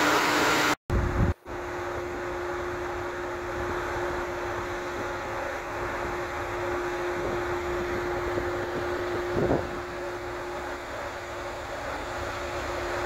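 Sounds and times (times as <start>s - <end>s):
ship diesel engine drone: 1.0s - 13.0s.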